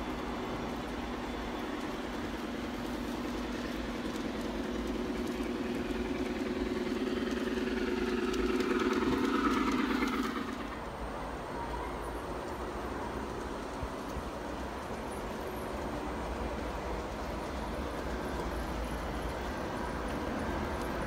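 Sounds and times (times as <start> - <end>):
model train motor humming: 0.0 - 21.0
wheels clicking on rails: 0.0 - 21.0.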